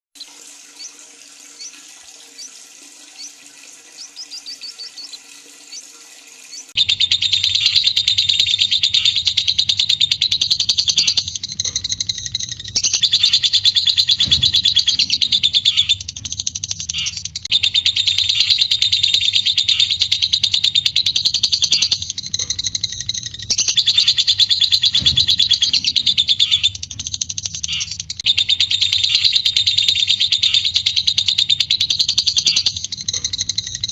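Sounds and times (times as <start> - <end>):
soft bird chirping: 0.2 - 33.9
bird loud rapid chattering: 3.2 - 33.9.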